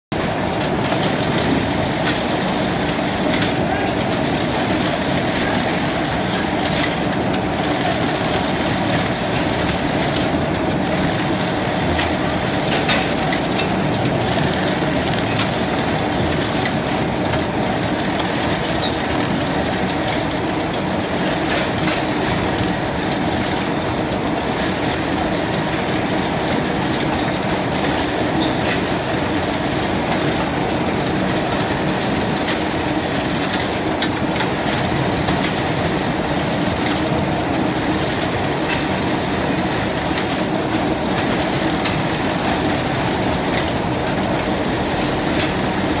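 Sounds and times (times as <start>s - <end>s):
bag-stitching machine running: 0.2s - 46.0s
chain conveyor running: 0.2s - 46.0s.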